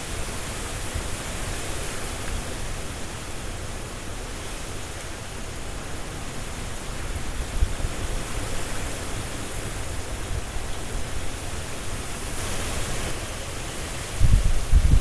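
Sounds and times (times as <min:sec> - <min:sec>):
leaves rustling: 0:00.0 - 0:15.0
strong wind rushing through trees: 0:00.0 - 0:15.0.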